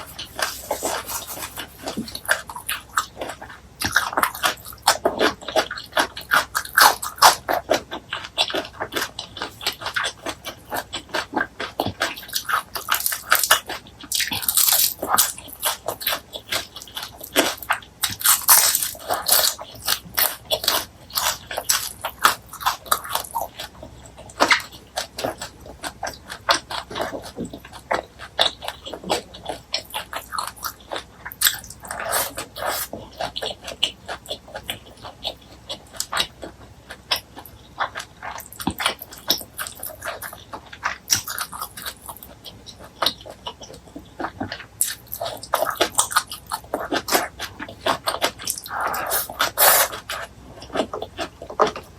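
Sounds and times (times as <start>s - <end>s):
close-miked crunching and chewing: 0.0s - 51.9s.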